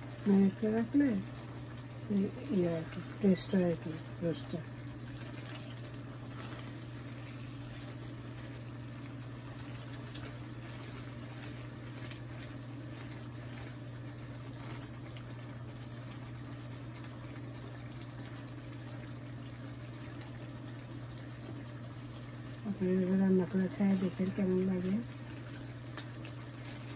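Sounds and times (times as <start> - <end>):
gravy bubbling in a pan: 0.0 - 26.9.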